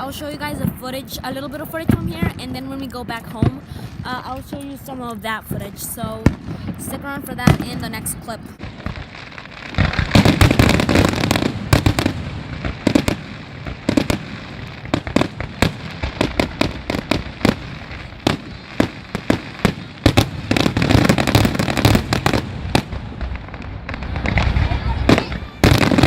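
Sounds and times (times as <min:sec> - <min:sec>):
fireworks banging and popping: 0:00.0 - 0:26.0.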